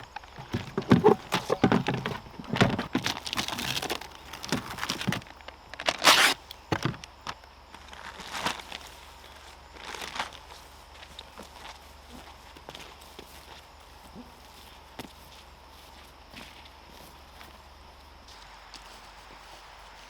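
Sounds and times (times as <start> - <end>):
rustling and crunching handling noise: 0.0 - 20.0.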